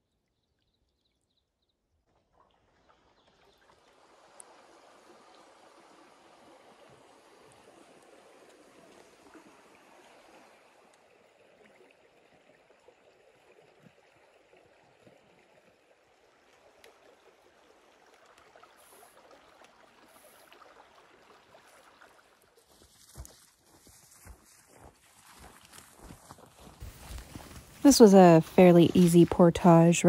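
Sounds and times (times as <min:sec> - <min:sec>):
small stream flowing: 0:00.0 - 0:30.0.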